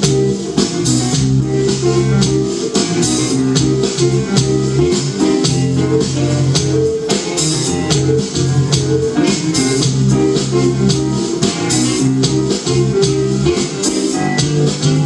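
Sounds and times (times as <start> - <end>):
drum kit with cymbals: 0.0 - 15.0
guitars: 0.0 - 15.0.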